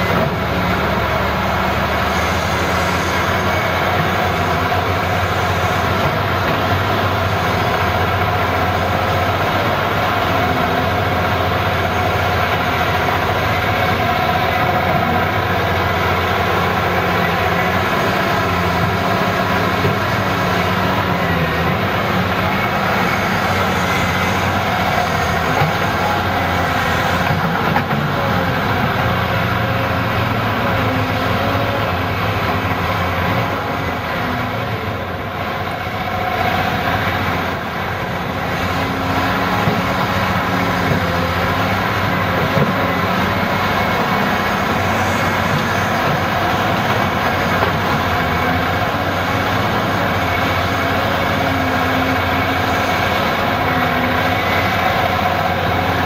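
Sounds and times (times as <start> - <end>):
excavator diesel engine: 0.0 - 56.0
hydraulic whine: 0.0 - 56.0.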